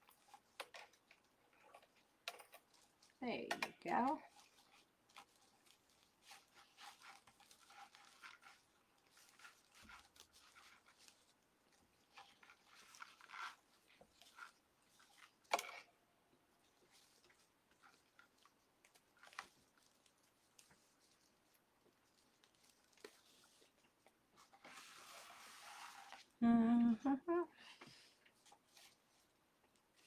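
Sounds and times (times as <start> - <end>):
rustling and crinkling mesh: 0.0 - 26.4, 27.6 - 30.0.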